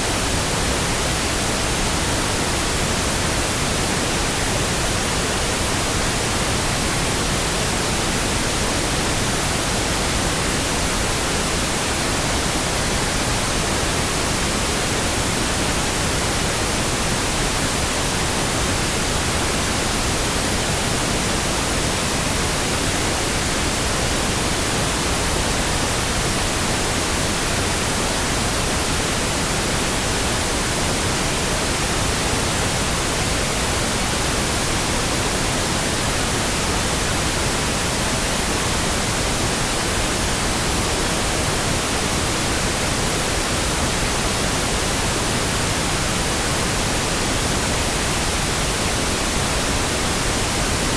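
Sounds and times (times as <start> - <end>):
steady pink noise hiss: 0.0 - 50.9.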